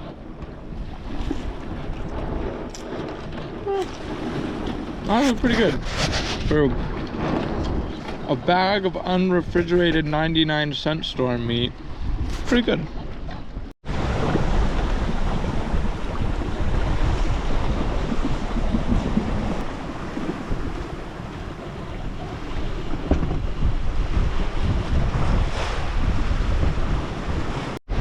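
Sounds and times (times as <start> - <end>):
waves washing around boat: 0.0 - 28.0
wind buffeting microphone: 0.0 - 28.0.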